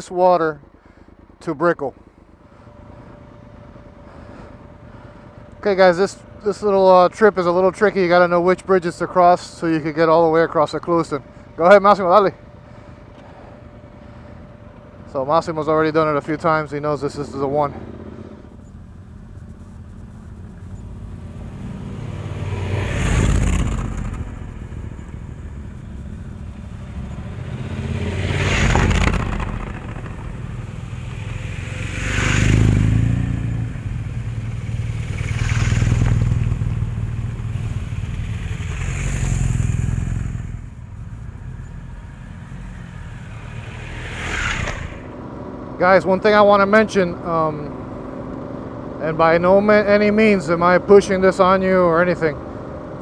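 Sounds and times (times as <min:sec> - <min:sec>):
motorcycle engines: 0:00.0 - 0:53.0.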